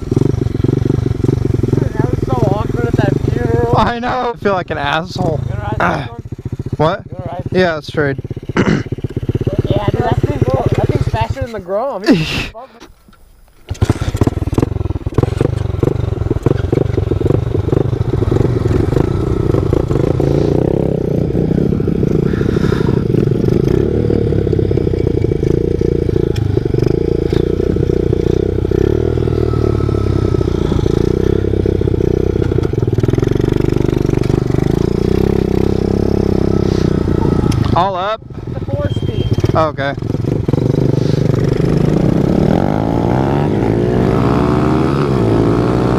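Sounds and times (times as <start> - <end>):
motorbike engine running: 0.0 - 11.6, 13.7 - 45.9.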